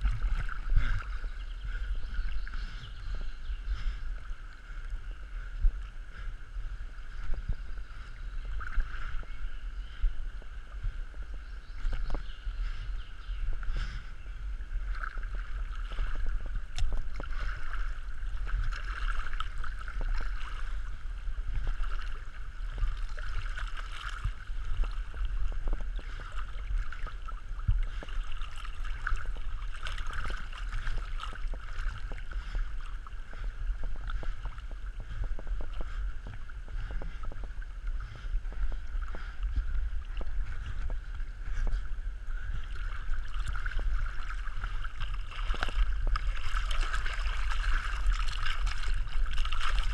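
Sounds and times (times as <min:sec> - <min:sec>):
stream water sloshing: 0:00.0 - 0:49.9.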